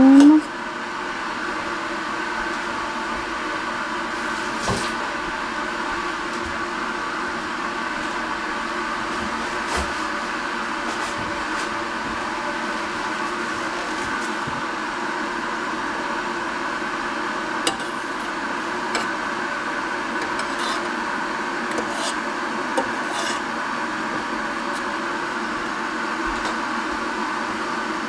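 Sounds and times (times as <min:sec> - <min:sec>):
exhaust fan humming: 0:00.0 - 0:28.0.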